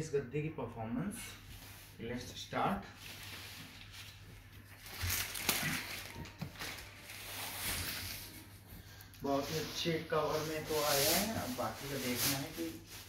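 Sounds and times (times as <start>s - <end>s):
plastic wrapping rustling: 1.3s - 13.0s.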